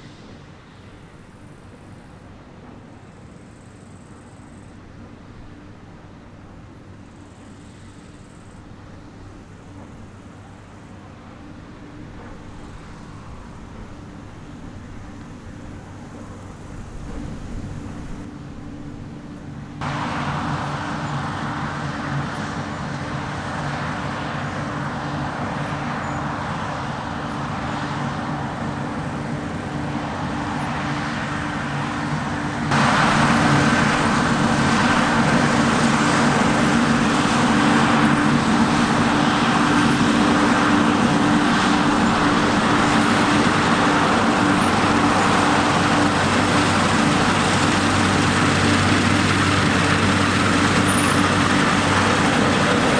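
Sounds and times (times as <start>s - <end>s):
diesel machinery engine hum: 0.0s - 52.9s.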